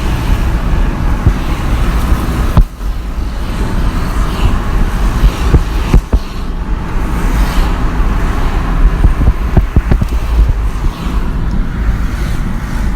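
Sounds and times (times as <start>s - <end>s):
road traffic rumble: 0.0s - 12.9s.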